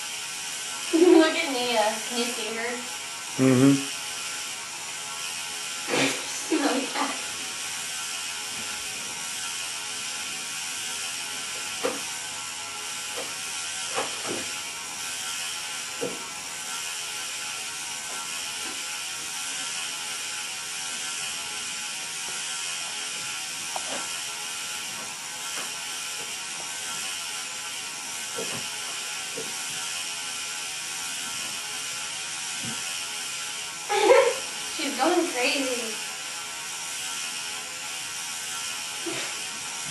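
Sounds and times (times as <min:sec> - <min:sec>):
small motor whirring: 0:00.0 - 0:39.9.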